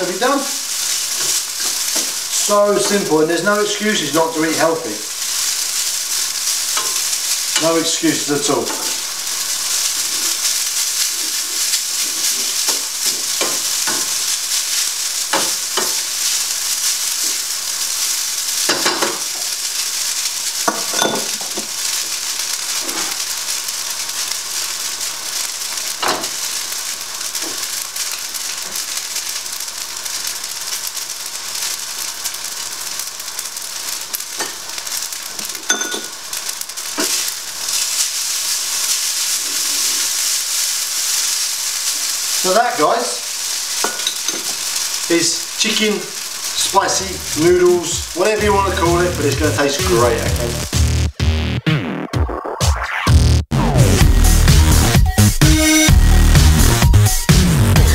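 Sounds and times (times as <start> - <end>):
food sizzling in frying pan: 0.0 - 57.9.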